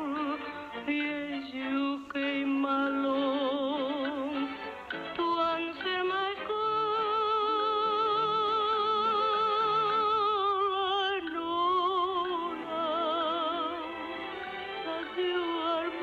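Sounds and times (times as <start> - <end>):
woman singing with vibrato: 0.0 - 14.0, 14.7 - 16.0
soft musical accompaniment: 0.0 - 16.0.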